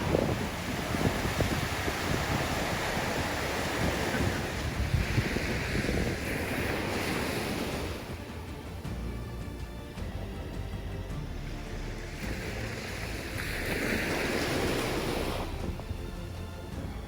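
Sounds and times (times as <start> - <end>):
waves washing onto sandy beach: 0.0 - 9.1, 11.6 - 17.0
wind buffeting microphone: 0.0 - 11.2, 12.2 - 17.0.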